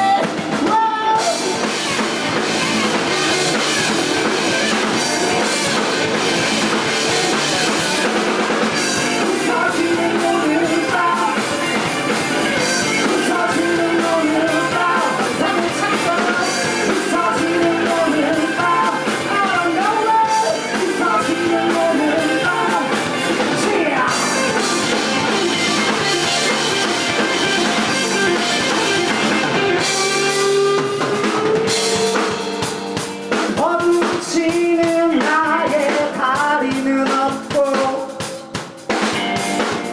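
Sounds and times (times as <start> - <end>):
person singing: 0.0 - 2.0, 3.0 - 32.7, 33.5 - 38.6
bass guitar: 0.0 - 39.9
drum kit: 0.0 - 39.9
electric guitar: 0.0 - 39.9.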